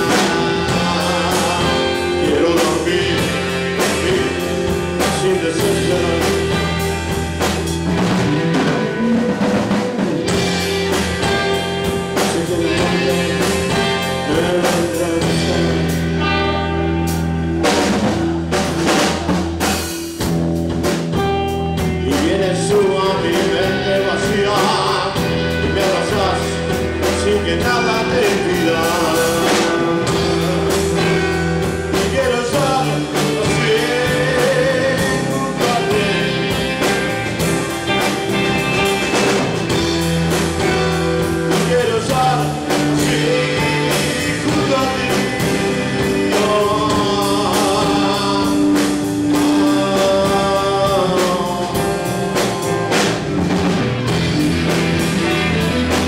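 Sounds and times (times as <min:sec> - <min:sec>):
bass line: 0:00.0 - 0:56.0
drum kit: 0:00.0 - 0:56.0
electric guitars: 0:00.0 - 0:56.0
melodic lead line: 0:00.0 - 0:56.0.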